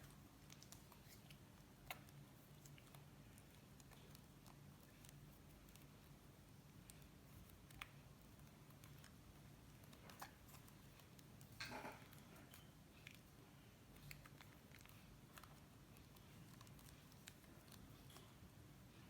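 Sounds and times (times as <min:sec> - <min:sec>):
slime squishing: 0:00.0 - 0:18.8.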